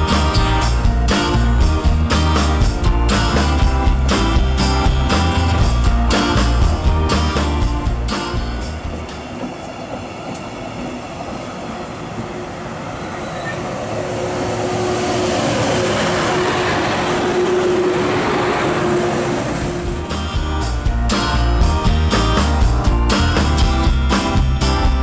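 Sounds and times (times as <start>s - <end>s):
electric locomotive hum: 0.0s - 25.0s
train wheels rumbling: 0.0s - 25.0s.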